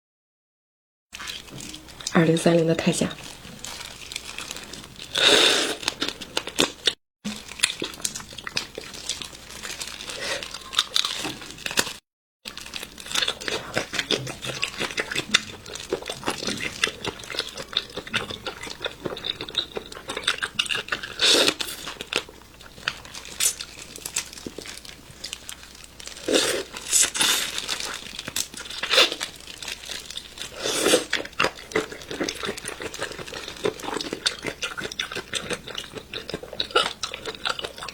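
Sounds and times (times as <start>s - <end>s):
prawn shells crackling: 3.0s - 37.9s.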